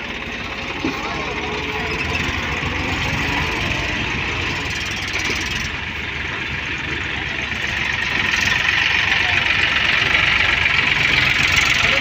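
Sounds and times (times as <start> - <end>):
tractor diesel engine chugging: 0.0 - 12.0.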